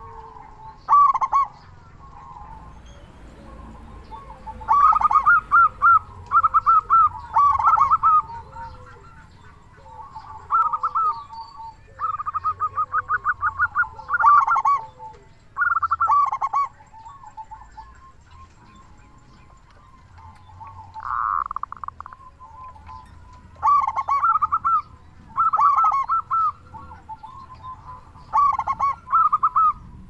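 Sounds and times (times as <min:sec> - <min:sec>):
doves cooing rapid notes: 0:00.0 - 0:30.0.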